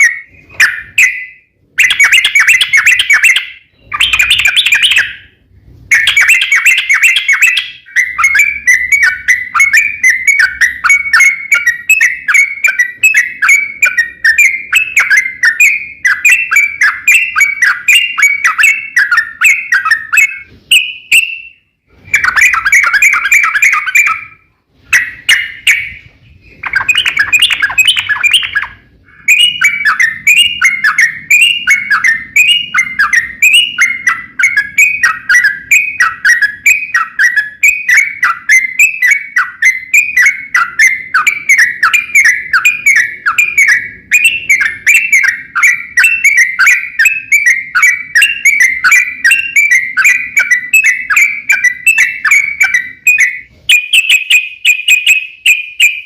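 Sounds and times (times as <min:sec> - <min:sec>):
bird singing chattering phrases: 0:00.0 - 0:05.3, 0:05.9 - 0:21.5, 0:22.1 - 0:56.0.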